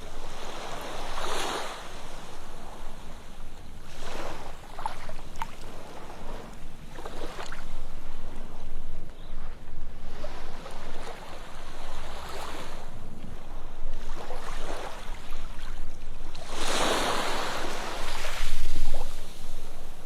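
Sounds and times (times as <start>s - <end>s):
ocean waves washing on beach: 0.0s - 20.0s.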